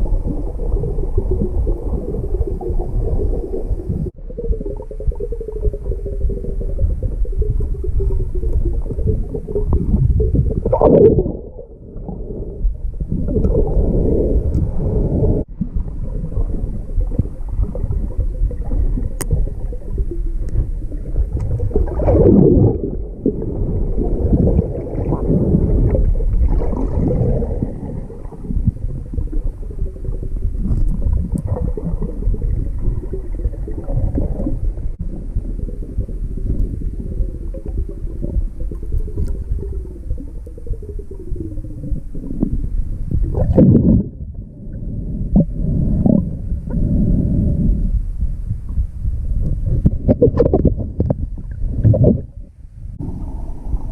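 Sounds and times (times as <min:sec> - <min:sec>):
underwater water gurgling: 0:00.0 - 0:53.9.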